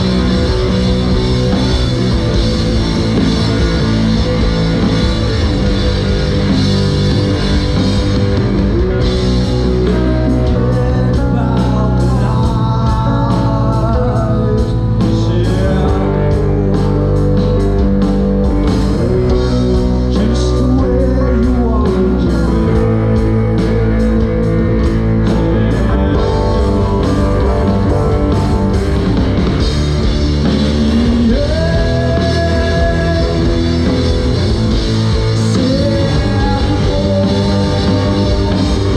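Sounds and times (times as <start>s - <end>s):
drums with cymbal strokes: 0.0s - 38.9s
electric guitar melody: 0.0s - 38.9s.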